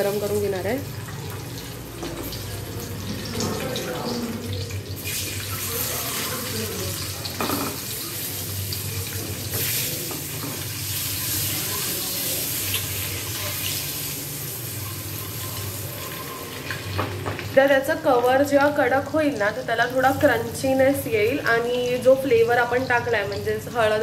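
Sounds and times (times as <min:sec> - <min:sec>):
eggs sizzling in hot oil: 0:00.0 - 0:24.0.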